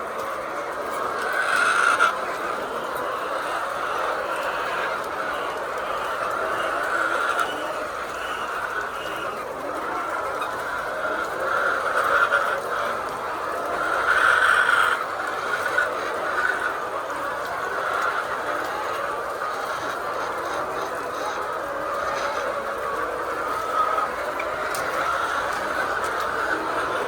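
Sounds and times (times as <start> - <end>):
hens calling: 0.0 - 27.0.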